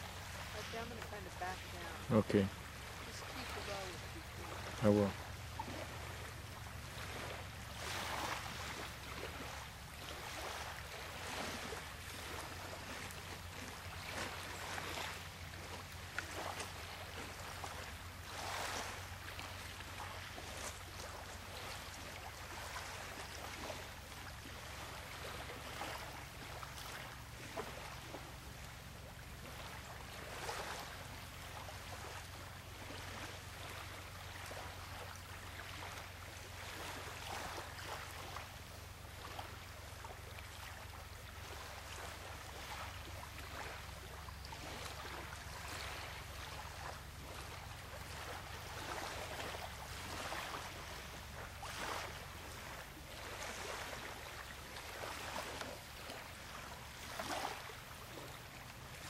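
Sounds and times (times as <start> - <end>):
waves washing on shore: 0.0 - 59.0.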